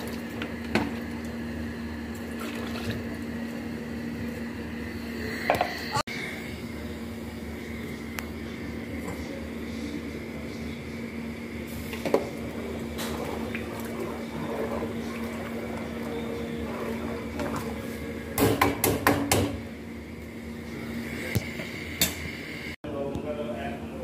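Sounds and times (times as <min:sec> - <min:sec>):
water boiling in pot: 0:00.0 - 0:05.9, 0:06.5 - 0:22.6
steady hum: 0:00.0 - 0:24.0.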